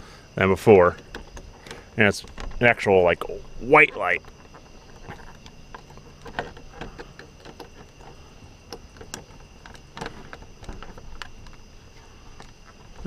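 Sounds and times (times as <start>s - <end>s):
hard plastic parts clicking: 0.6s - 13.0s.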